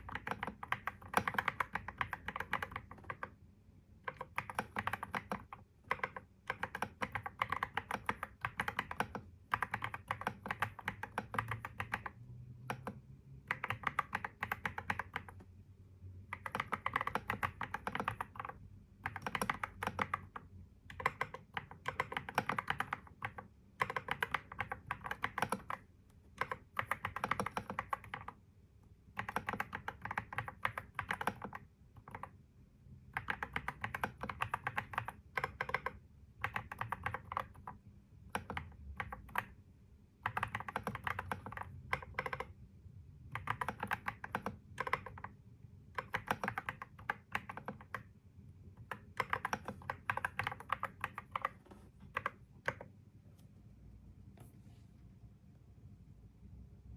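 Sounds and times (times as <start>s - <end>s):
typing on computer keyboard: 0.0s - 3.4s, 4.0s - 15.5s, 16.2s - 28.4s, 29.1s - 32.4s, 33.1s - 39.6s, 40.2s - 42.6s, 43.2s - 48.2s, 48.8s - 53.0s.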